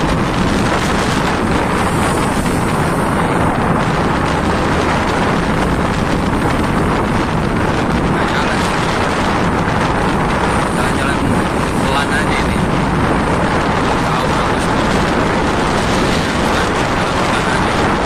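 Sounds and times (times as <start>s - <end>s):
water rushing along ship hull: 0.0s - 18.0s
wind blowing across microphone: 0.0s - 18.0s.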